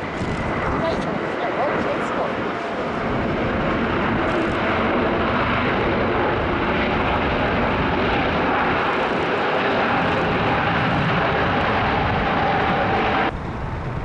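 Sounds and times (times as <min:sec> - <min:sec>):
airliner engines rushing: 0:00.0 - 0:14.0.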